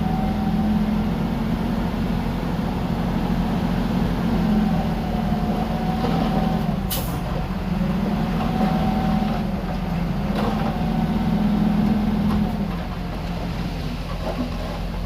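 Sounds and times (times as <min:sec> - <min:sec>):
diesel machinery engine hum: 0:00.0 - 0:15.0.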